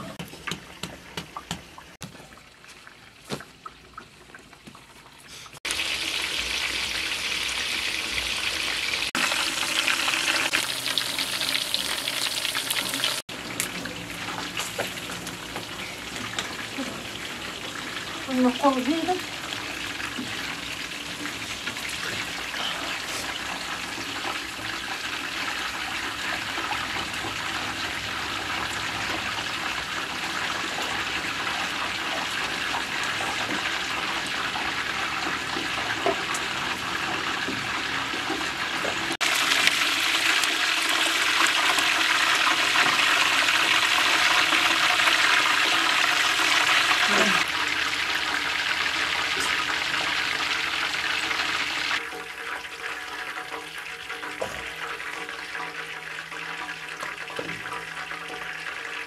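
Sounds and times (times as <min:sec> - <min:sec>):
fish sizzling in hot oil: 0:05.2 - 0:59.0.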